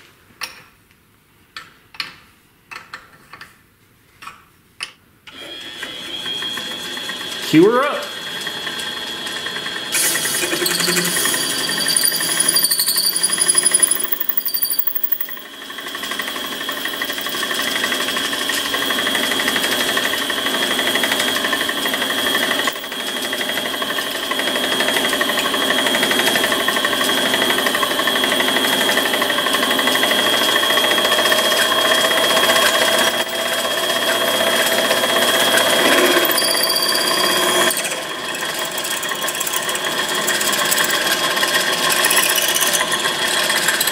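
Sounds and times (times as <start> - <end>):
lathe drilling metal: 5.3 - 43.9.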